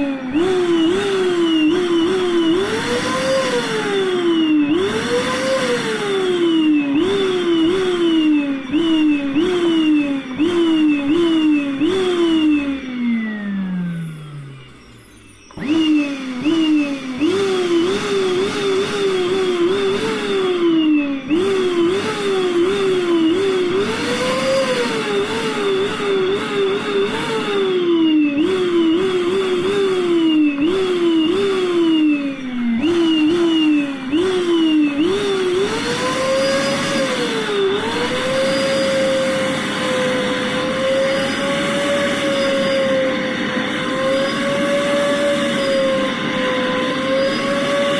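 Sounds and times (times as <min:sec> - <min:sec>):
vacuum cleaner revving: 0:00.0 - 0:47.9.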